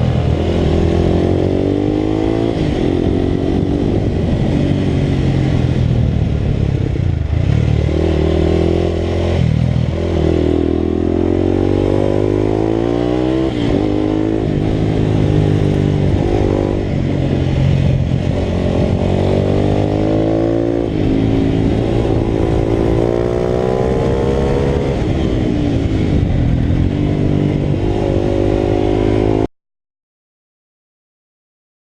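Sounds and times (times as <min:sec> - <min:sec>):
motorcycle engine revving: 0:00.0 - 0:29.5.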